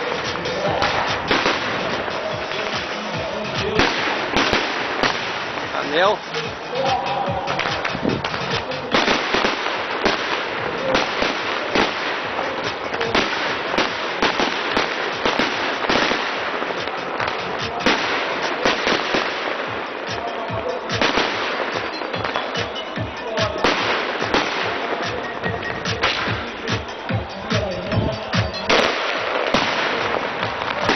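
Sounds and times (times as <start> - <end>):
fireworks bangs: 0.0 - 30.9
fireworks crackling: 0.0 - 30.9.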